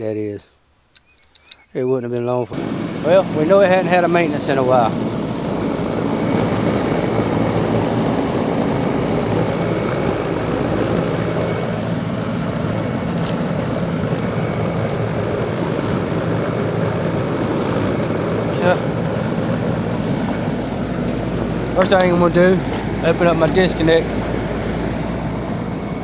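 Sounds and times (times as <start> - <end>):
compressor low hum: 2.3 - 26.0
condenser fan whoosh: 2.5 - 26.0.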